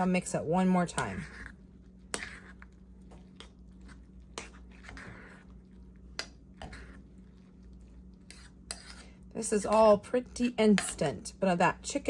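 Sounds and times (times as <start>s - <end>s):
soft squishing of stirred food: 0.0s - 12.0s.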